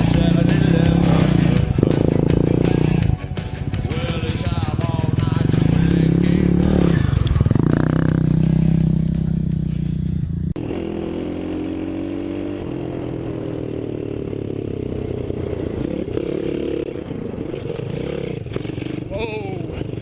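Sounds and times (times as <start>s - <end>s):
small bike engines revving: 0.0s - 20.0s.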